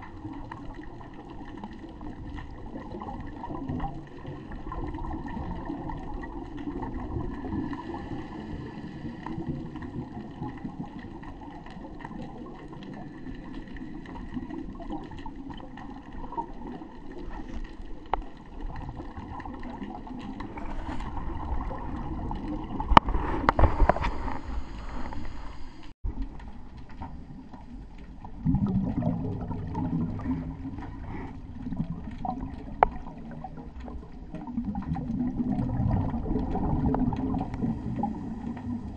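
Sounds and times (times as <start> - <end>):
underwater regulator bubbles gurgling: 0.0 - 38.9.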